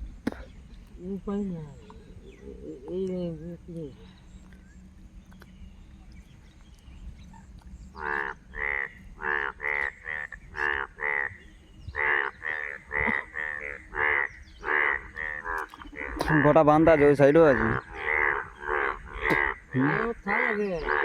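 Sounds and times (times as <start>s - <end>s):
frogs croaking: 0.0s - 21.0s.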